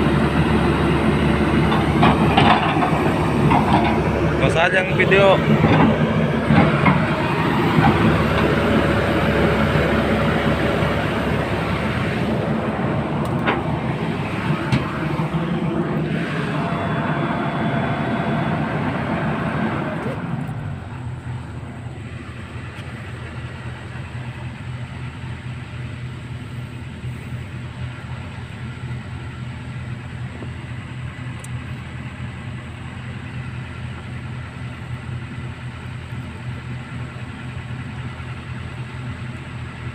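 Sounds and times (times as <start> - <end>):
heavy diesel engine: 0.0 - 39.9.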